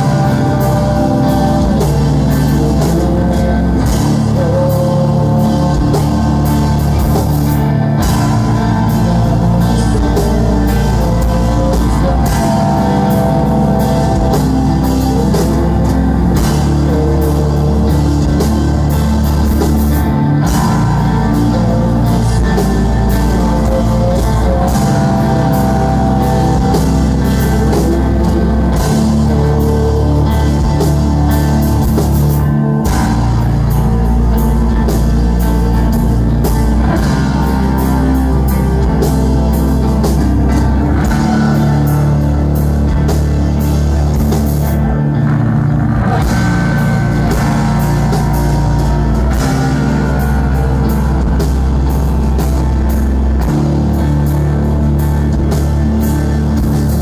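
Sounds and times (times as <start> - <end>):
loud live rock band: 0.0 - 57.0.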